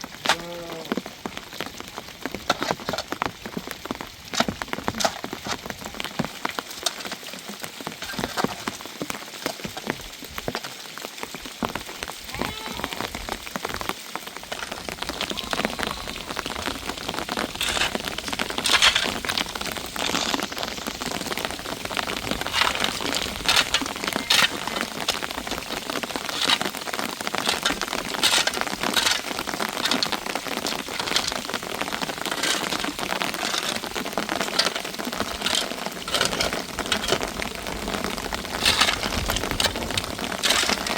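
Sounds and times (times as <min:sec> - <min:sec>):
rain beating on a surface: 0:00.0 - 0:40.9.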